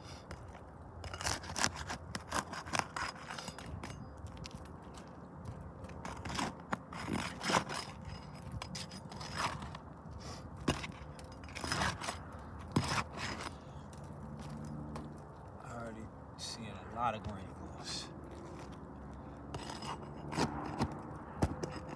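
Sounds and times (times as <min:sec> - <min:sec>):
pry bar scraping shingles: 0:00.0 - 0:15.6, 0:18.2 - 0:21.9.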